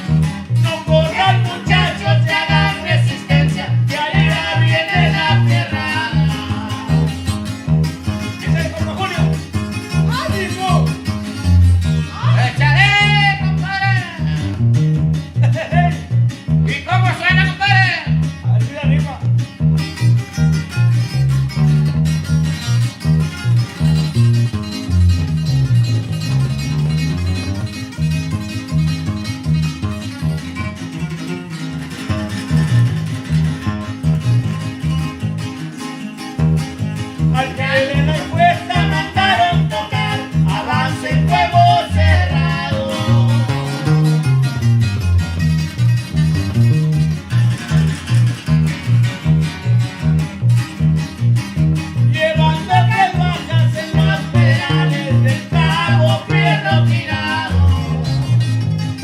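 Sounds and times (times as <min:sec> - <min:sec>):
bass line: 0:00.0 - 0:59.0
plucked and strummed guitars: 0:00.0 - 0:59.0.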